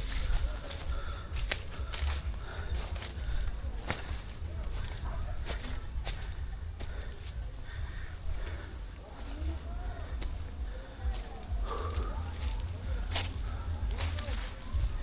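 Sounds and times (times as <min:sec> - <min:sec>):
footsteps clicking: 0:00.0 - 0:15.0
insects chirring: 0:00.0 - 0:15.0
low rumble: 0:00.0 - 0:15.0.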